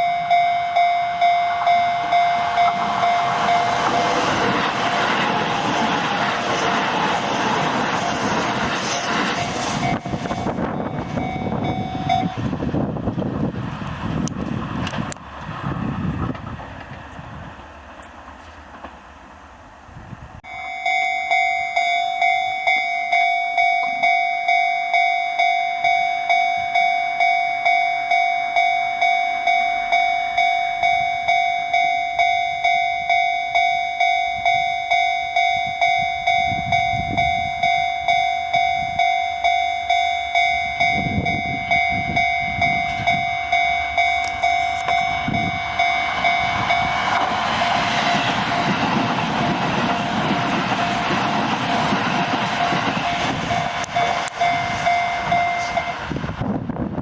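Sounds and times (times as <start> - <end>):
level crossing warning bell: 0.0 - 13.2, 20.4 - 56.7
electric train rumbling past: 0.0 - 57.0.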